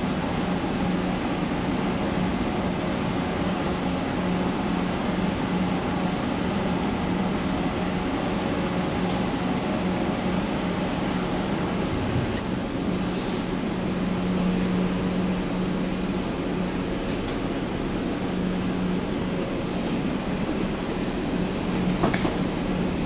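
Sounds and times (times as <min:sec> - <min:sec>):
metro car rushing hum: 0:00.0 - 0:23.0.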